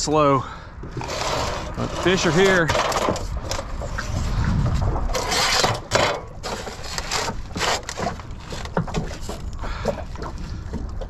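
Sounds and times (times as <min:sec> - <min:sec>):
fish scraping and knocking on deck: 0:00.8 - 0:10.4.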